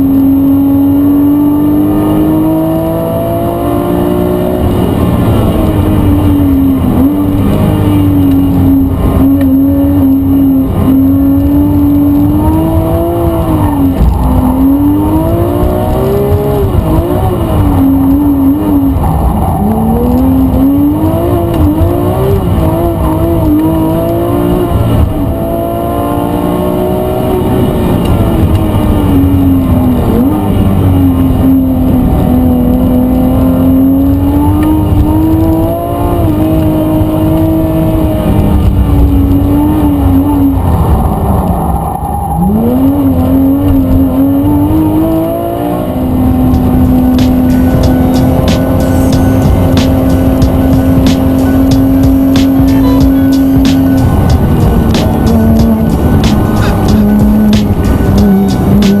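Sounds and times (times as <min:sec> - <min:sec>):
sports car engine revving: 0:00.0 - 0:59.0.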